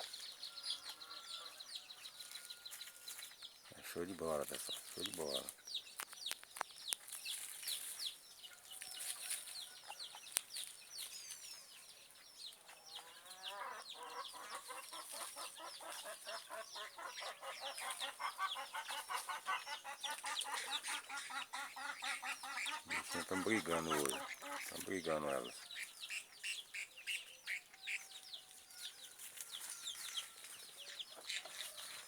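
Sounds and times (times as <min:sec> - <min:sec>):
birds chattering calls: 0:00.0 - 0:32.0.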